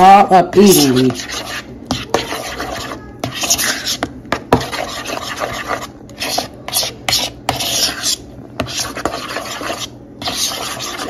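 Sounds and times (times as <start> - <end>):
utensil stirring thick sauce: 0.5 - 11.0.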